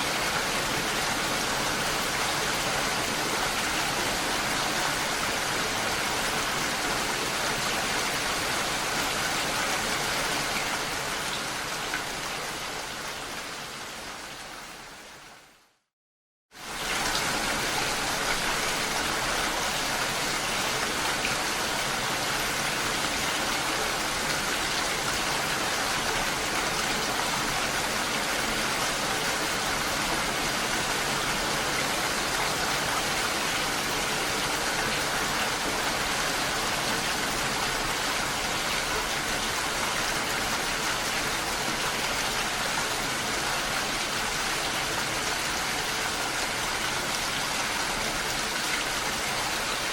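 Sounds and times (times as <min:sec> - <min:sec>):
steady rain: 0:00.0 - 0:15.9, 0:16.5 - 0:49.9.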